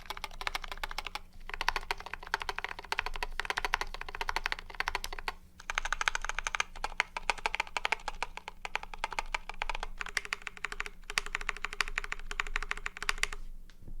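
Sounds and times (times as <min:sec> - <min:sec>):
mechanical keyboard typing: 0:00.0 - 0:13.4.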